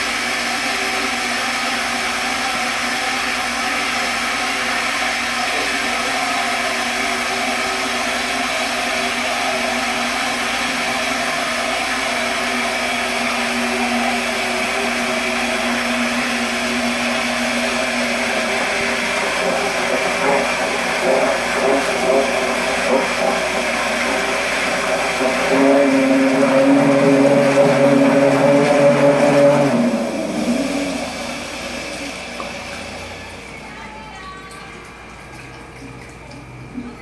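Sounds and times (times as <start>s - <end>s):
mixer motor whine: 0.0s - 37.0s.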